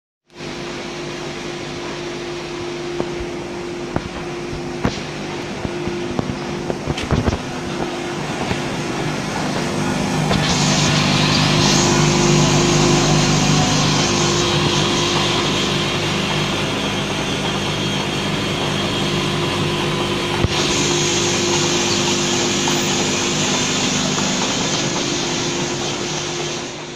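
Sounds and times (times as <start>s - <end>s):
machinery humming: 0.3s - 26.9s.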